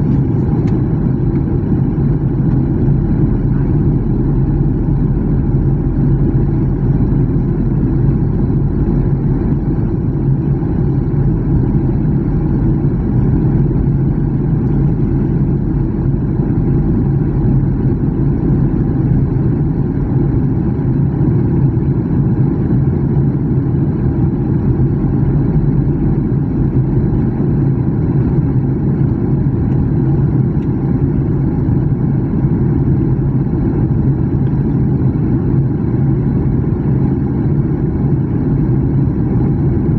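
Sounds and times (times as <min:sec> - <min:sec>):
constant low hum: 0:00.0 - 0:39.9
jet engines rumbling: 0:00.0 - 0:39.9.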